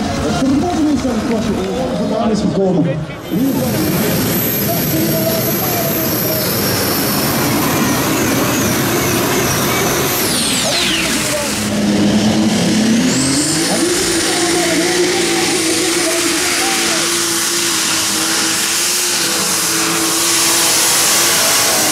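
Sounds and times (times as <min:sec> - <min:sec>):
pulling tractor engine whining: 0:00.0 - 0:21.9.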